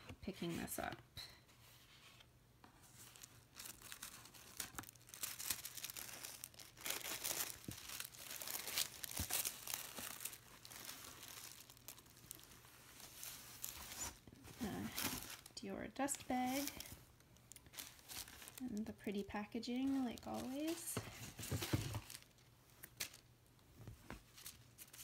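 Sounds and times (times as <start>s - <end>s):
tissue paper rustling: 1.6s - 23.2s.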